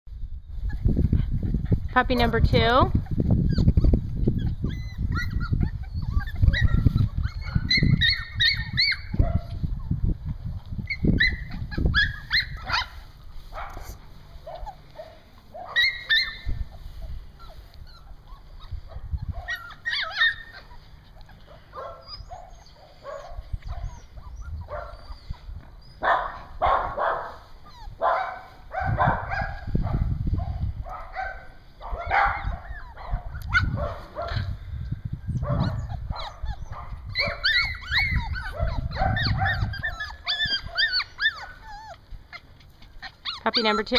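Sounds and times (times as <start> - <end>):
puppy whimpering and yipping: 0.6 - 10.0, 10.8 - 13.2, 14.4 - 26.6, 27.2 - 29.8, 32.0 - 34.5, 35.3 - 43.9.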